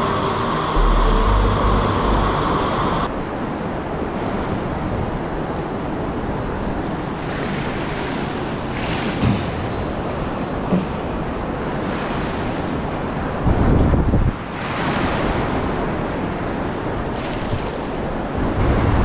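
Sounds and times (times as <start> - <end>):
wind buffeting microphone: 2.6 - 19.0.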